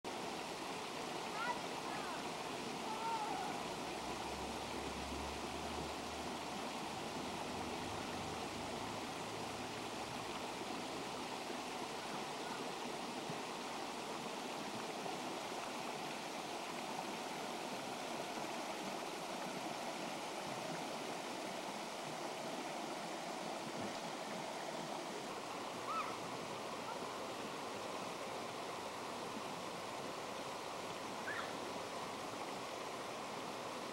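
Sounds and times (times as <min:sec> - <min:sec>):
stream running over rocks: 0:00.0 - 0:33.9.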